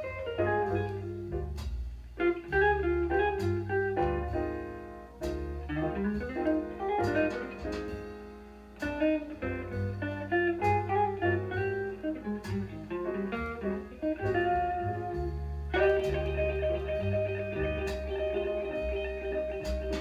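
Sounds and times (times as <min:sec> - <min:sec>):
bass line: 0:00.0 - 0:20.0
jazz guitar record: 0:00.0 - 0:20.0.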